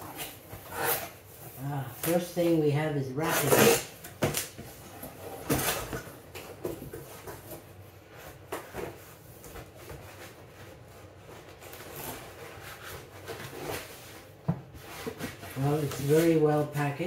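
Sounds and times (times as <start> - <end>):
cardboard rustling and scraping: 3.2 - 17.0.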